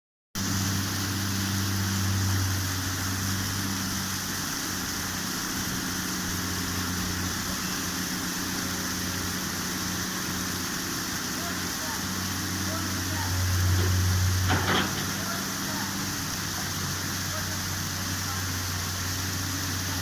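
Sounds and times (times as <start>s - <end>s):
engine idling: 0.4s - 20.0s
rain hissing: 0.4s - 20.0s
rushing water: 0.4s - 20.0s.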